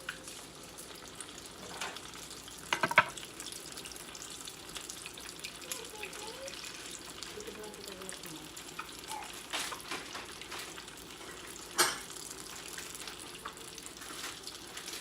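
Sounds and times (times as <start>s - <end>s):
food deep-frying in grease: 0.0s - 15.0s.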